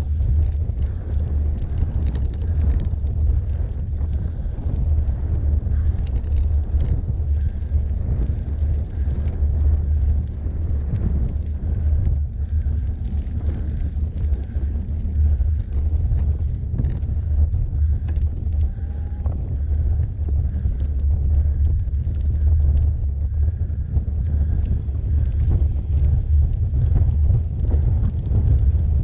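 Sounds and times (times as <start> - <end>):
bike clicks and rattles: 0.0 - 29.0
wind rumble on microphone: 0.0 - 29.0.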